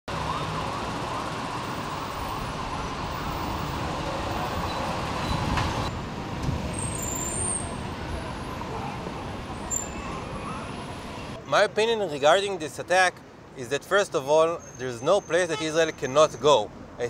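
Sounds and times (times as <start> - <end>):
passing road traffic: 0.1 - 17.0.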